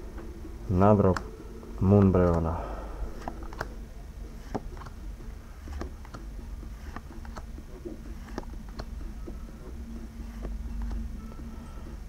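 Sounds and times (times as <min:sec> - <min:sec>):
low steady hum: 0:00.0 - 0:12.0
cards clicking and rustling: 0:01.0 - 0:05.0, 0:05.6 - 0:11.4.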